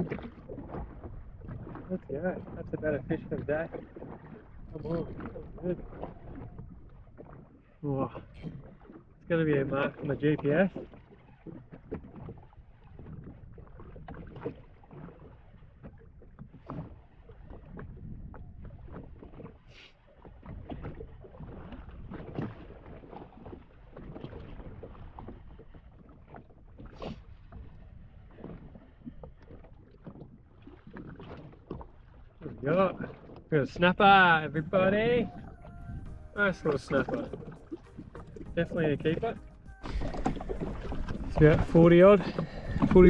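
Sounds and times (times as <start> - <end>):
water lapping against hull: 0.0 - 43.0.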